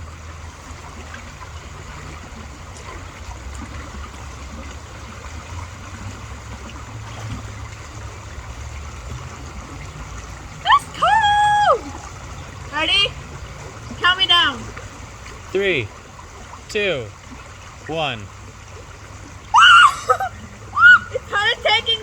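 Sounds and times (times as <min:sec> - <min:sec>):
water rushing over rocks: 0:00.0 - 0:22.0.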